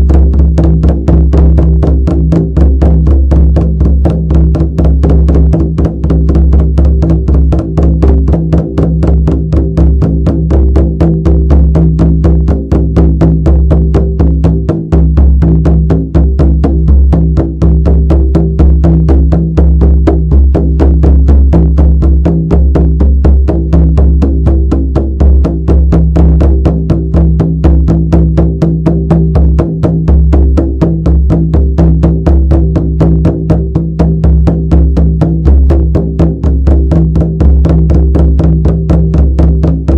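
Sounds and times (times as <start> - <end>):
frame drum beaten fast: 0.0 - 39.9.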